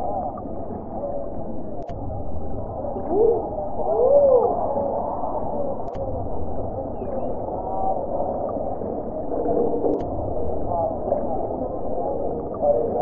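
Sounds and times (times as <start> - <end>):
muffled crowd chatter: 2.5 - 13.0.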